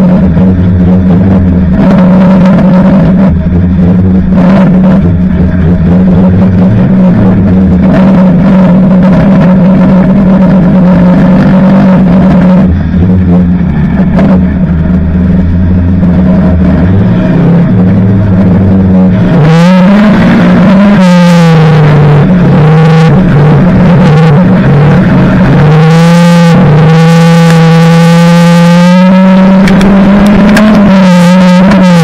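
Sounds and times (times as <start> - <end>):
loud racing car engine: 0.0 - 32.0.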